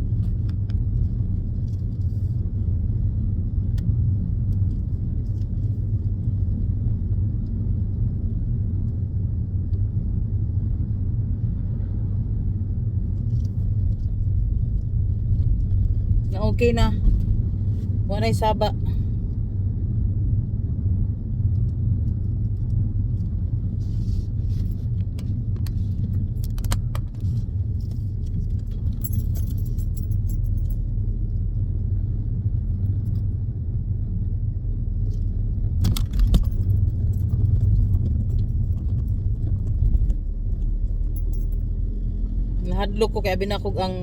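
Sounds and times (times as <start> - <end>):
car cabin road rumble: 0.0 - 44.0.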